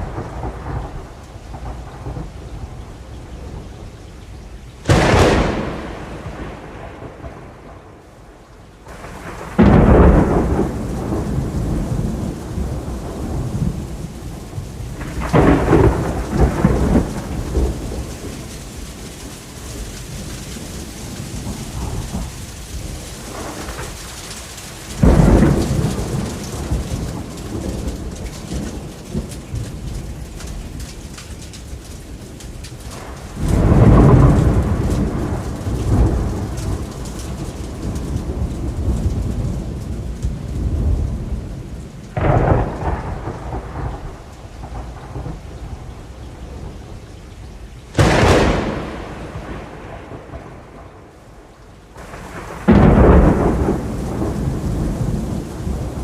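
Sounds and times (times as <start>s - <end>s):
rain falling: 0.0s - 56.0s
thunder cracking and rumbling: 0.0s - 56.0s.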